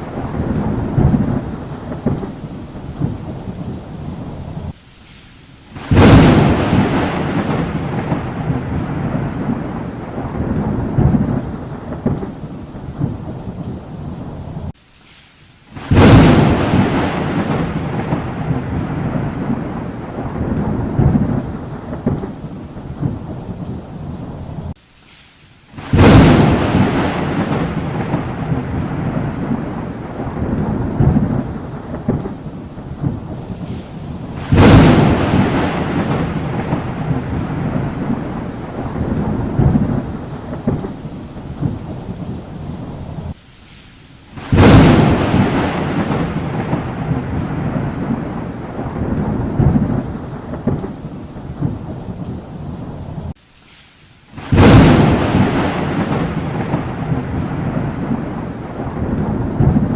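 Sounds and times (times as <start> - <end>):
thunderclaps rolling into rumble: 0.0 - 4.8, 5.8 - 14.7, 15.8 - 24.8, 25.8 - 43.4, 44.4 - 53.4, 54.4 - 59.9
steady rain: 0.0 - 59.9.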